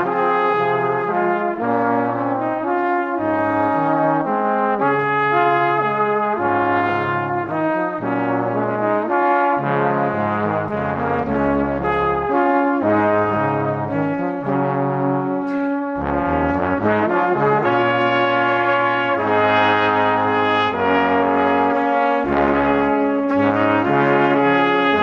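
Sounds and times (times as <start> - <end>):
instrumental music with brass lead: 0.0 - 25.0.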